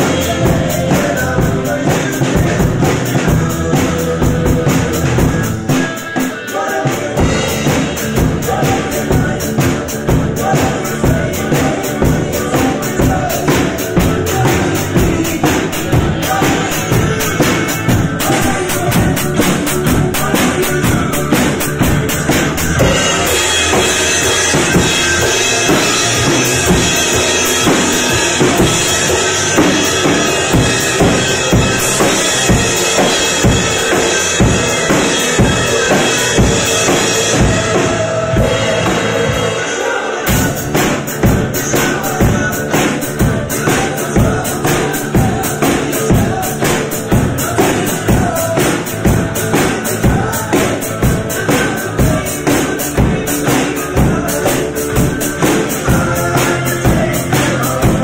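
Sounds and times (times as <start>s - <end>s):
drum kit rock beat: 0.0s - 58.0s.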